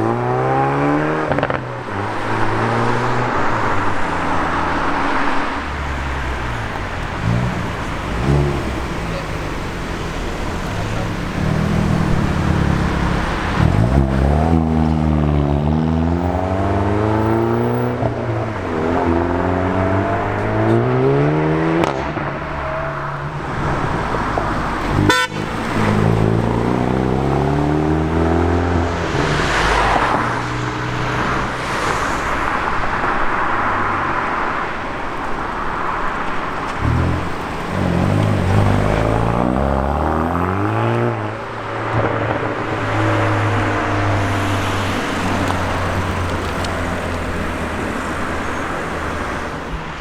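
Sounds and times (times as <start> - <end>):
car engine accelerating hard: 0.0 - 50.0.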